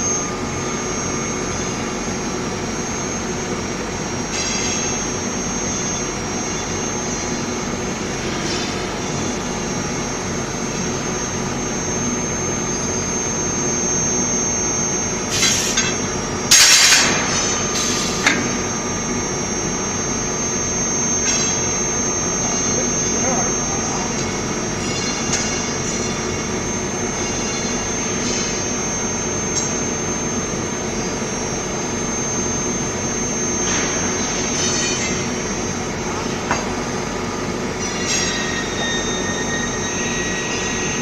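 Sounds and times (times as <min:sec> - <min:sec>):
machine hum with high whine: 0:00.0 - 0:41.0.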